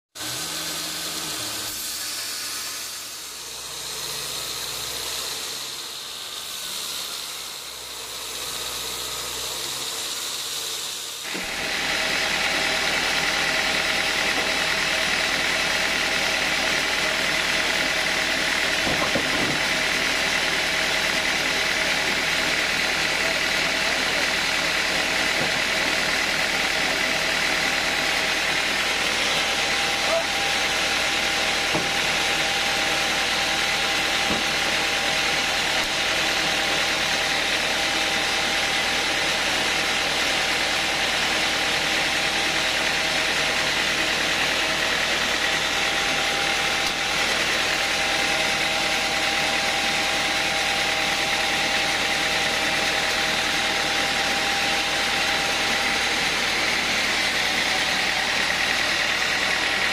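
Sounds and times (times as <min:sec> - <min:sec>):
sawmill machinery hum and whine: 0:00.1 - 0:59.9.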